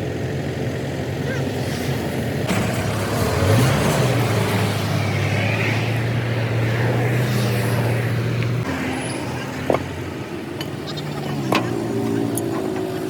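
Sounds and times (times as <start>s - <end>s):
vehicle engine low hum: 0.0s - 13.0s.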